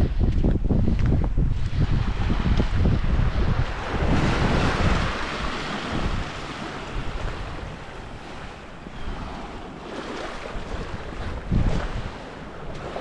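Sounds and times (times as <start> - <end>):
wind buffeting microphone: 0.0 - 13.0
surf washing onto beach: 1.5 - 13.0.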